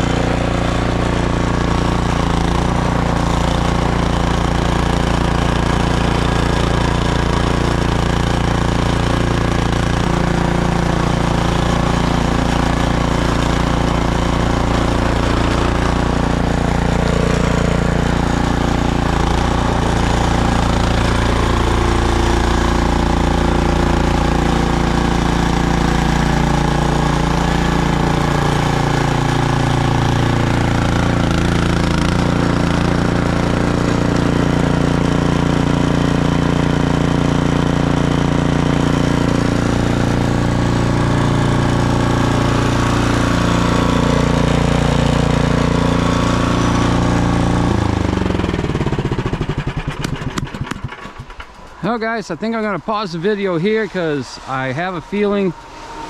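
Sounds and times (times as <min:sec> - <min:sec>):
small engine chugging: 0:00.0 - 0:56.0.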